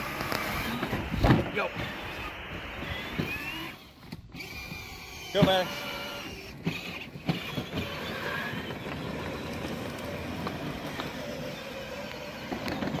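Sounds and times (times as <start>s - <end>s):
plastic wheels rolling: 0.0s - 13.0s
toy car electric motors whirring: 0.0s - 13.0s.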